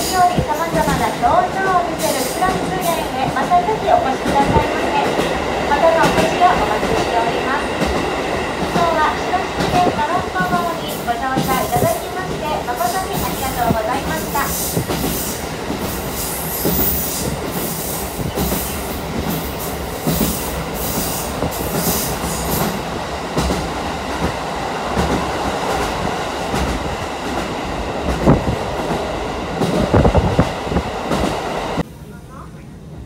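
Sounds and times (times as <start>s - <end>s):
train wheels rumbling on rail: 0.0s - 32.2s.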